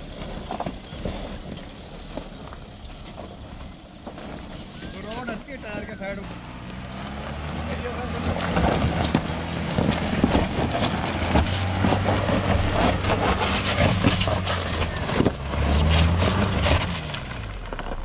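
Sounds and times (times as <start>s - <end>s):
engine running under load: 0.0s - 18.0s
stones crunching under tyres: 0.0s - 18.0s.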